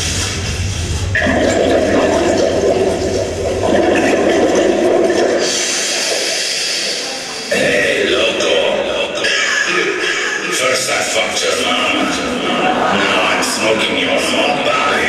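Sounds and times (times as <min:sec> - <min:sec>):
water rushing and gurgling: 0:01.2 - 0:15.0.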